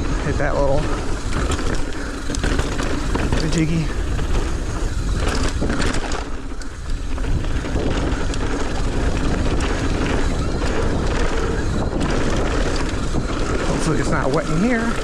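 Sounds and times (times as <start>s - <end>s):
bike rattling: 0.0s - 15.0s
tyres running on dirt: 0.0s - 15.0s
wind rushing over microphone: 0.0s - 15.0s.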